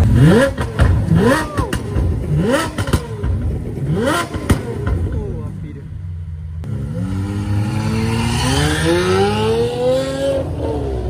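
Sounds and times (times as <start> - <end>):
sports car engine accelerating hard: 0.0 - 5.2, 6.6 - 11.0.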